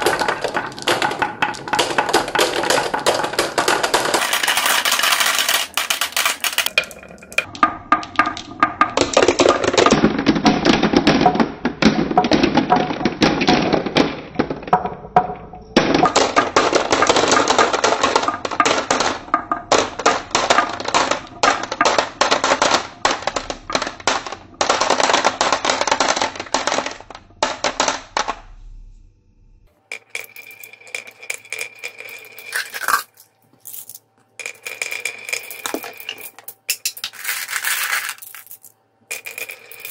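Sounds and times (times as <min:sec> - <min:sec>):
marbles clacking on wooden tracks: 0:00.0 - 0:28.4, 0:29.8 - 0:39.9
marbles dropping into plastic bin: 0:00.0 - 0:28.4, 0:29.9 - 0:39.9.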